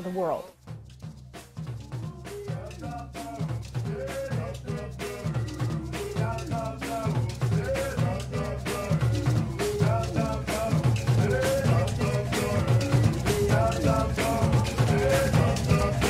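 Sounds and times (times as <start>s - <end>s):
background music with drum beat: 0.6s - 16.0s.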